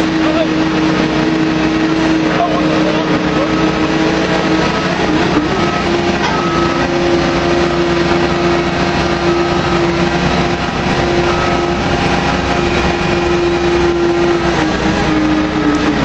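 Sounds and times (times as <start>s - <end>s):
drilling rig engine rumble: 0.0s - 16.0s
steady machine whine: 0.0s - 16.0s.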